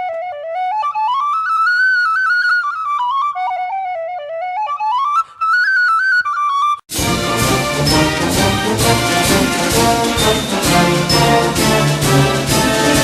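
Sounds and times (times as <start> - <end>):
solo flute-like melody: 0.0 - 13.0.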